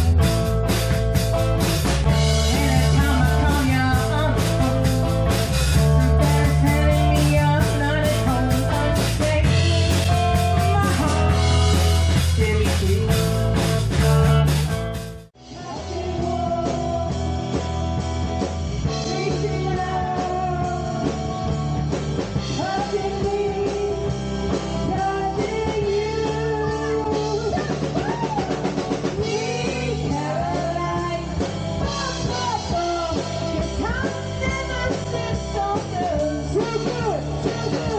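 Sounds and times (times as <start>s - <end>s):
live rock band playing: 0.0s - 37.9s
person singing: 2.3s - 14.1s, 15.4s - 17.7s, 18.8s - 21.7s, 22.5s - 37.9s.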